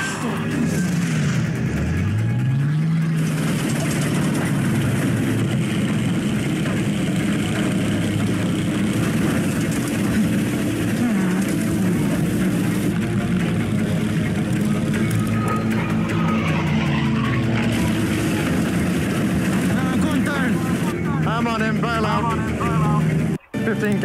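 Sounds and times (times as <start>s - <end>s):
engine-like drone: 0.0s - 24.0s.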